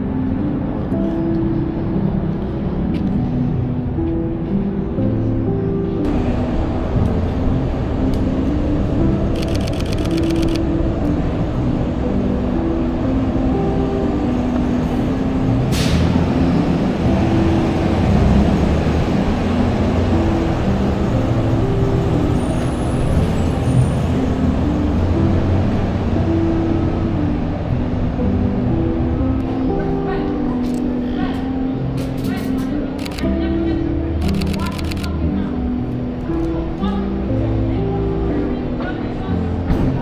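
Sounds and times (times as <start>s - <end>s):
background music: 0.0s - 40.0s
city and vehicle rumble: 0.0s - 40.0s.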